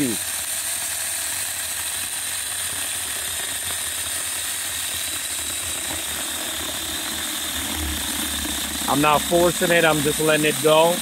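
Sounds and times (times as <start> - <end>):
mini chainsaw cutting wood: 0.0 - 11.0.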